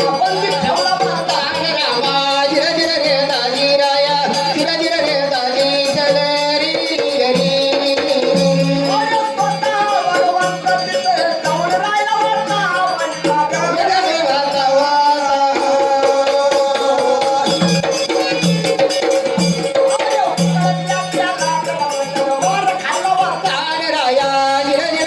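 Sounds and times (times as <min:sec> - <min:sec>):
hand drum beating: 0:00.0 - 0:25.0
jingling percussion: 0:00.0 - 0:25.0.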